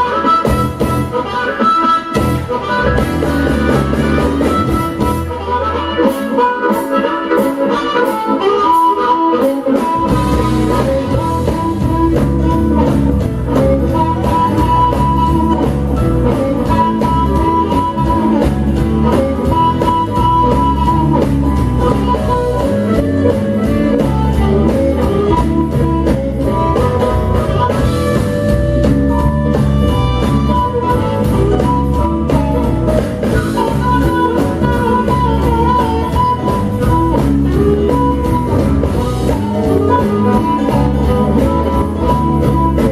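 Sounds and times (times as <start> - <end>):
electric blues band playing: 0.0 - 42.9
electric guitar: 0.0 - 42.9.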